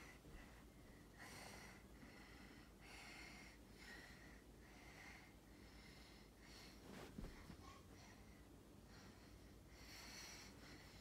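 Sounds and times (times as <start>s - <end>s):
person breathing faintly: 0.0s - 11.0s.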